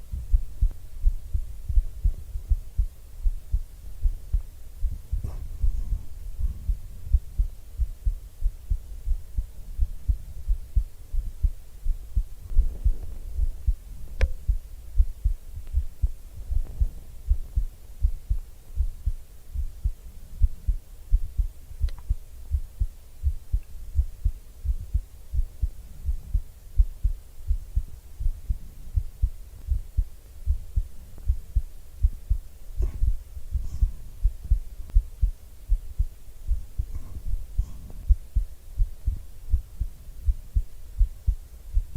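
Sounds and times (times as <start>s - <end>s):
heartbeat thumps: 0.0s - 41.9s.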